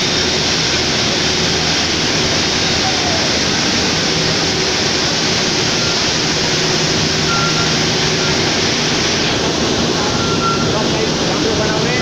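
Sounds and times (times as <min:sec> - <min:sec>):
sugar mill machinery running: 0:00.0 - 0:12.0.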